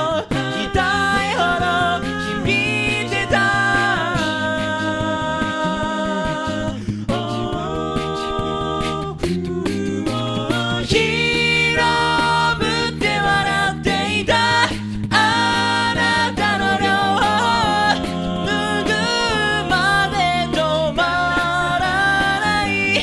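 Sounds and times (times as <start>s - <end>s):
a cappella group singing: 0.0s - 23.0s
vocal percussion beat: 0.0s - 23.0s.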